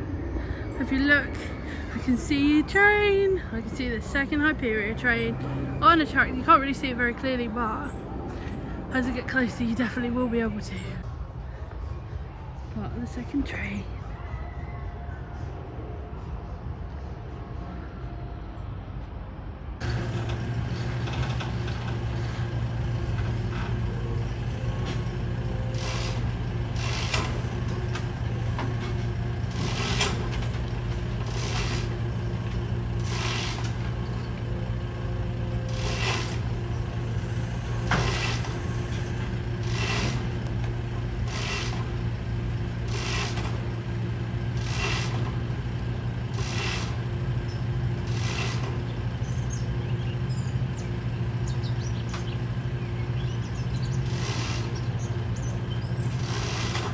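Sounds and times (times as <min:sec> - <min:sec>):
heavy vehicle engine humming: 0:00.0 - 0:14.2, 0:15.1 - 0:56.9.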